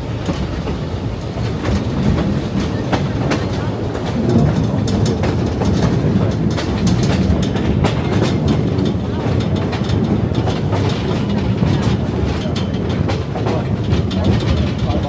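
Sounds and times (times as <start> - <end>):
train cars rumbling on track: 0.0 - 15.0
wheels and couplings clicking: 1.4 - 15.0.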